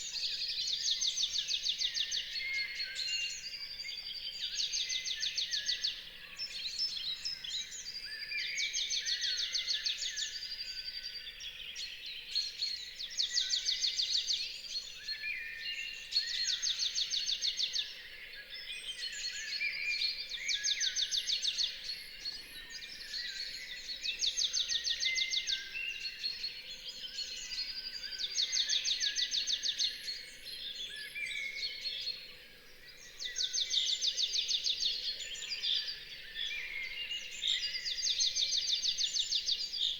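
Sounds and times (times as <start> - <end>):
many birds singing: 0.0 - 39.9.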